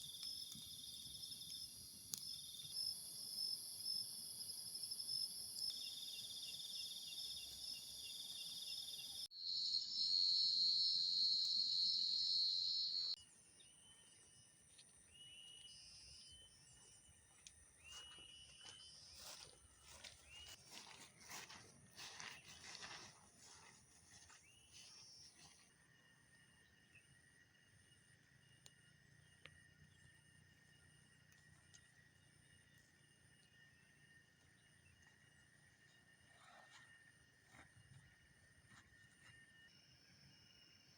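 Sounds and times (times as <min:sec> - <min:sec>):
night insects chirping: 0:00.0 - 0:19.4, 0:23.6 - 0:40.9.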